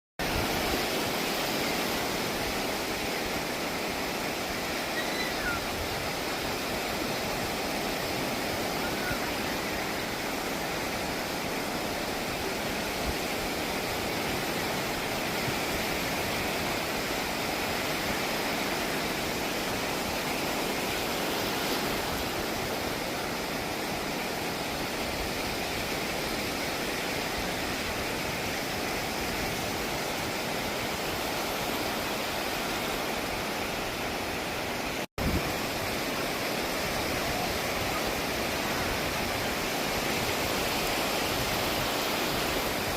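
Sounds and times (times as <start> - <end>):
sea waves washing: 0.2 - 42.9.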